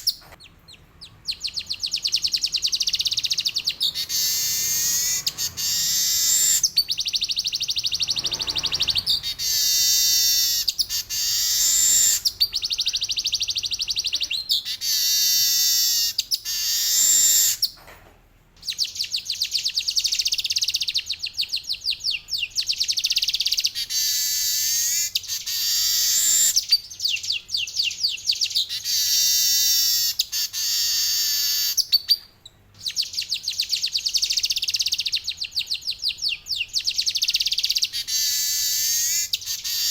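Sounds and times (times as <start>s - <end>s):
weaver bird singing buzzy trills: 0.0s - 17.8s, 18.6s - 39.9s.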